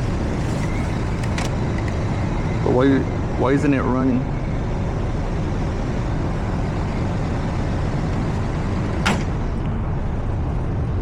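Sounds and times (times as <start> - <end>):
hvac fan whoosh and hum: 0.0 - 11.0.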